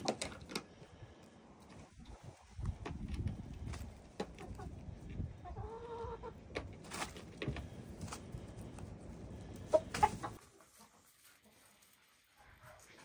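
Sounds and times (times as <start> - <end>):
hens clucking: 0.0 - 0.7, 1.6 - 13.0.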